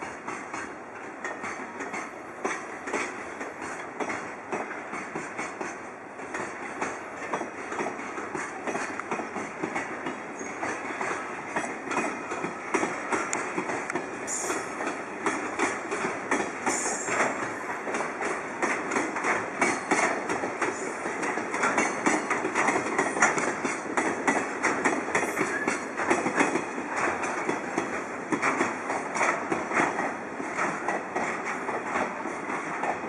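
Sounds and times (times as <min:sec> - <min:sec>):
train rumble: 0:00.0 - 0:33.0
wheels clattering over rail joints: 0:00.2 - 0:33.0.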